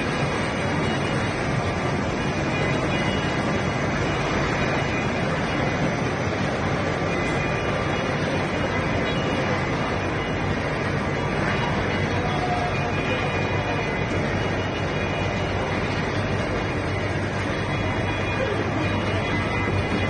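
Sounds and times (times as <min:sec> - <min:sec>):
machine motors running: 0:00.0 - 0:20.0.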